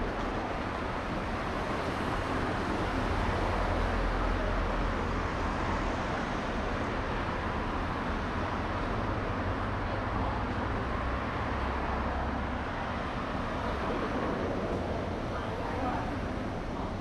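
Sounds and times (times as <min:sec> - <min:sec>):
cars passing on street: 0:00.0 - 0:17.0.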